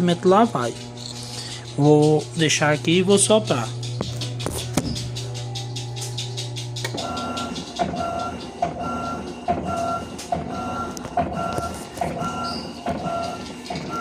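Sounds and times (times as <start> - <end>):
washing machine hum: 0.0 - 14.0
washing machine motor whine: 0.0 - 14.0
washing machine clicks: 1.6 - 14.0.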